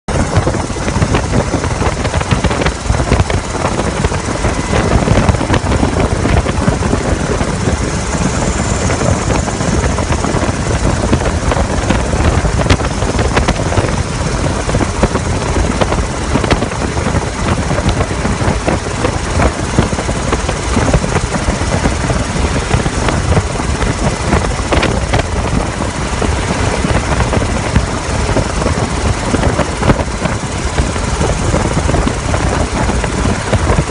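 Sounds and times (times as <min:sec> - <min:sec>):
helicopter rotor and engine noise: 0:00.1 - 0:33.9.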